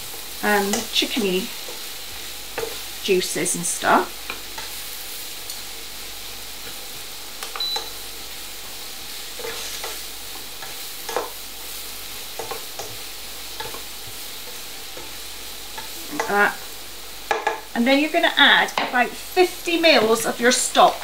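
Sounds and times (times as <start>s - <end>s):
leeks sizzling in a frying pan: 0.0s - 21.0s.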